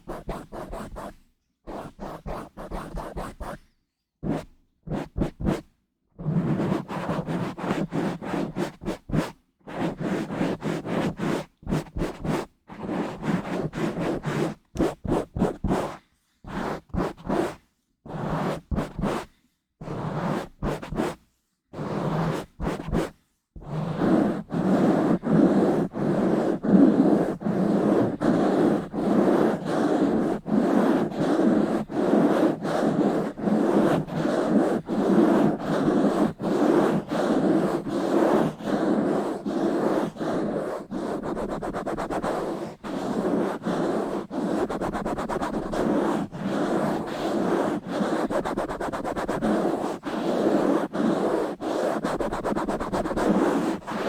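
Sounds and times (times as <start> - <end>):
rubbing on microphone: 0.0 - 21.2, 21.8 - 54.0.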